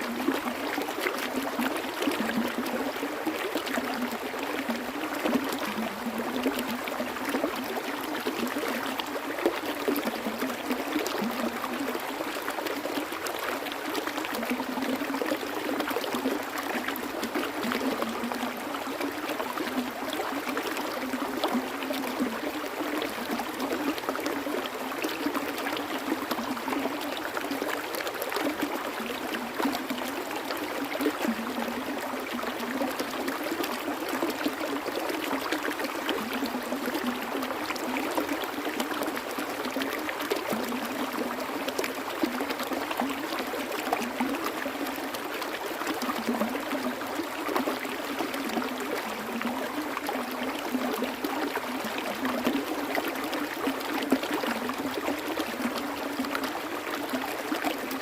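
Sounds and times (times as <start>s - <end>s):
small stream babbling: 0.0s - 58.0s.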